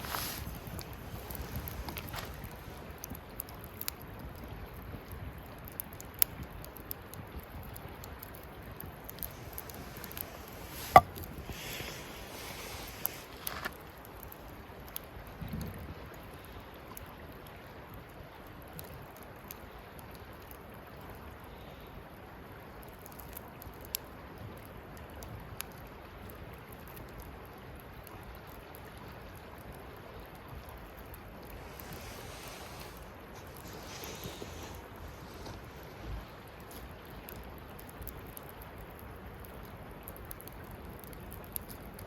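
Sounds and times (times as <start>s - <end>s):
campfire crackling and popping: 0.0s - 21.4s, 22.5s - 42.0s.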